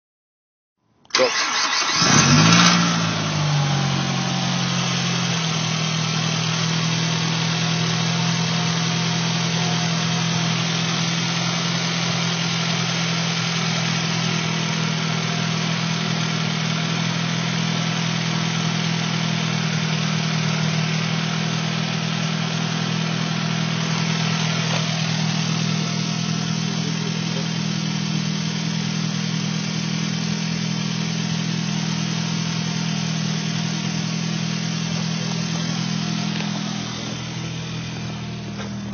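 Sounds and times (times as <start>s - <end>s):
car engine idling: 1.1s - 38.9s.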